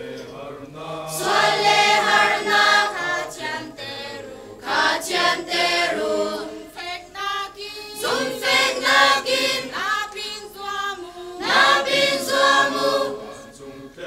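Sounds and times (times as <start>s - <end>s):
mixed choir singing a hymn: 0.0s - 14.0s.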